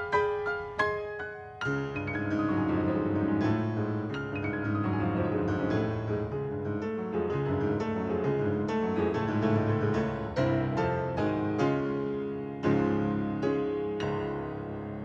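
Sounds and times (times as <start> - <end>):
solo grand piano: 0.0 - 15.0.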